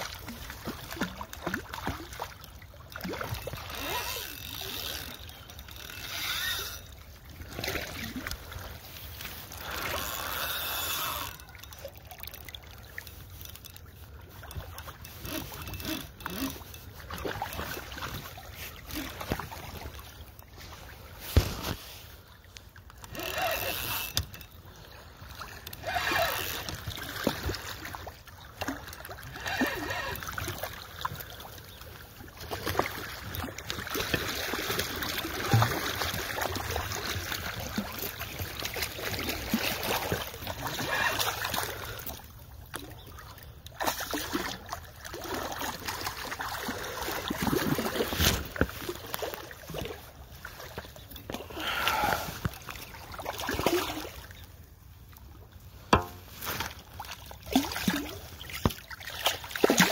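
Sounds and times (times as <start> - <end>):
stream water splashing: 0.0 - 59.9.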